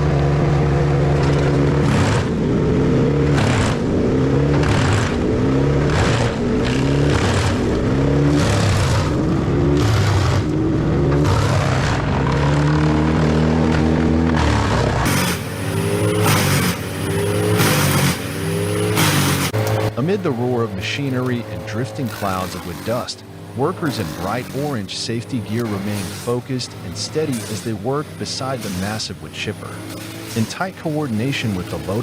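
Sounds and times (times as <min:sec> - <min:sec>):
wood chipper engine under load: 0:00.0 - 0:32.0.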